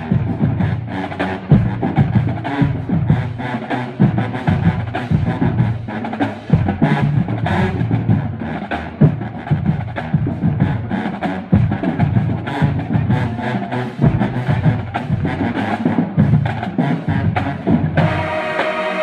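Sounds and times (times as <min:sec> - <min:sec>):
drums pounding: 0:00.0 - 0:19.0
low brass notes: 0:00.0 - 0:19.0.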